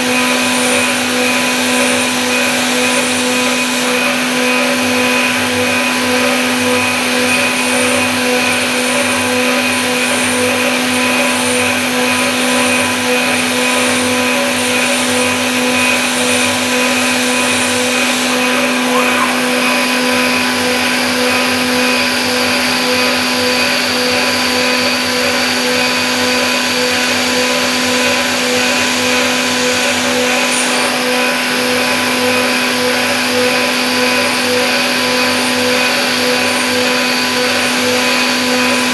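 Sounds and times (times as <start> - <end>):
milling machine spindle whine: 0.0 - 38.9.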